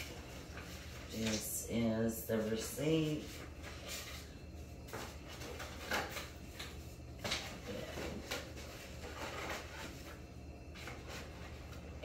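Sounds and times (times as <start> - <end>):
paper and cardboard rustling: 0.0 - 1.5, 2.3 - 12.0
low steady hum: 0.0 - 12.0.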